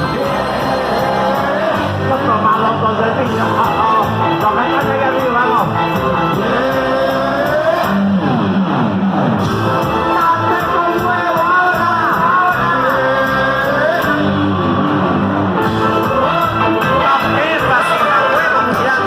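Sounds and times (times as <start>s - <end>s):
band music with wavering melody: 0.0s - 19.0s.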